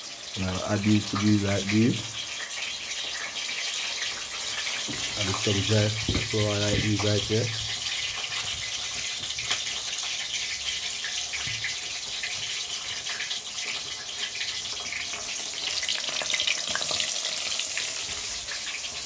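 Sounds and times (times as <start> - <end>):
oil sizzling and popping in a pot: 0.0 - 19.0.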